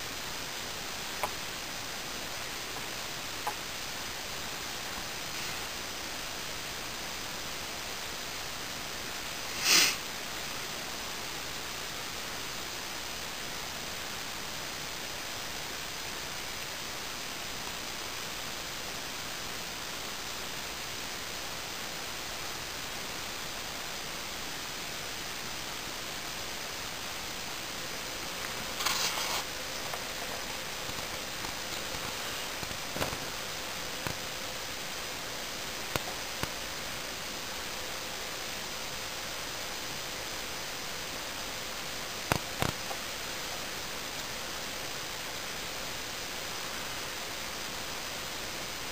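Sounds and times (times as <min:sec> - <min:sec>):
background recording hiss: 0:00.0 - 0:48.9.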